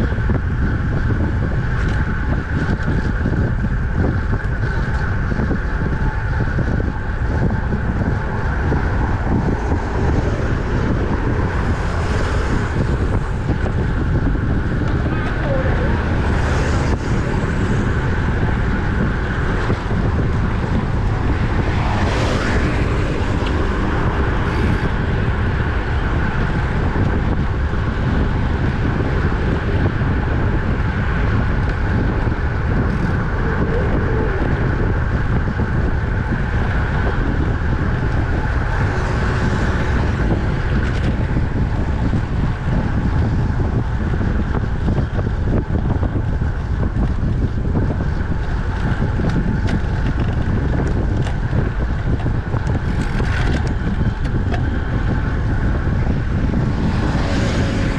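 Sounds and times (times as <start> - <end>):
bicycle tyre and road noise: 0.0 - 57.9
wind rumbling on microphone: 0.0 - 57.9.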